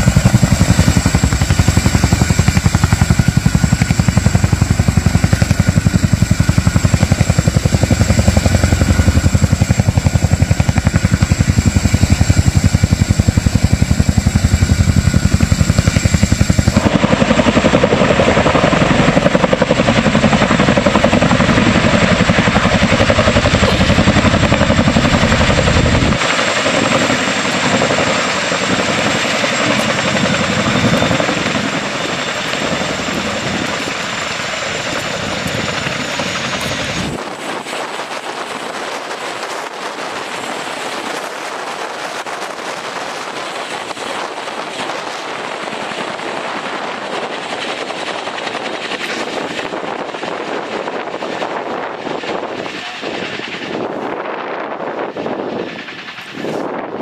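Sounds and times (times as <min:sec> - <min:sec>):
helicopter rotors and engine: 0:00.0 - 0:57.0.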